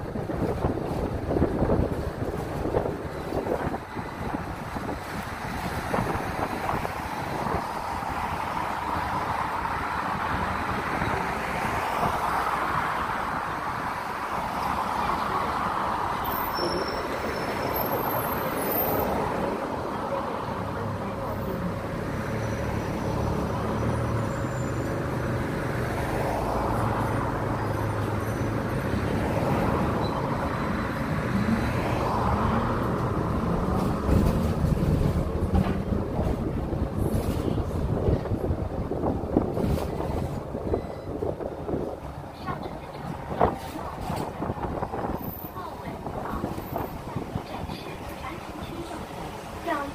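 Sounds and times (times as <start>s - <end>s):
bus engine and road rumble: 0.0s - 49.9s.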